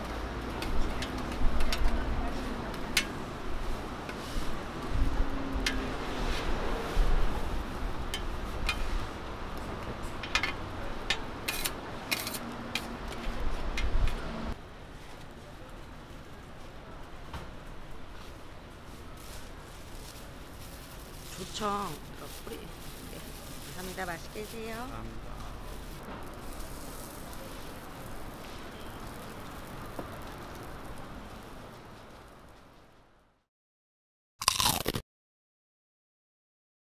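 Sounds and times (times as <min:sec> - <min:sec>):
market stall background hiss: 0:00.0 - 0:33.2.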